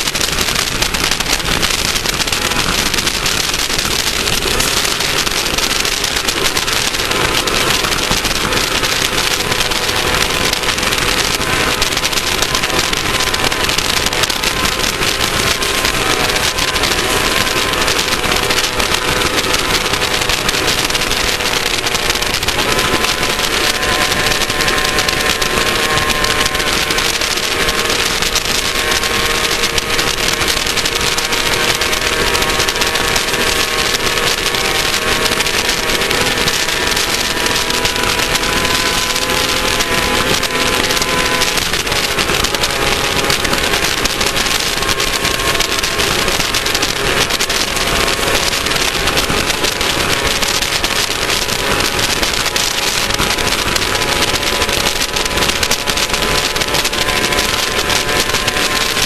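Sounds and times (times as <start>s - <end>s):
race car engine running hard: 0.0s - 59.0s
wind and running gear rushing: 0.0s - 59.0s.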